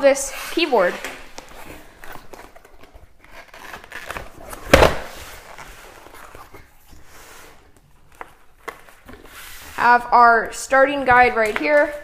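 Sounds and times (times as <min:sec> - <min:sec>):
cardboard rustling and scraping: 0:00.1 - 0:10.1.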